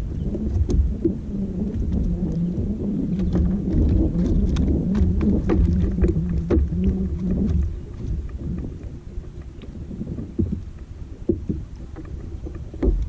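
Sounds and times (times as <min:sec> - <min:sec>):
boat motor running: 0:00.0 - 0:13.0
knocks and clicks: 0:01.8 - 0:09.6, 0:10.3 - 0:13.0.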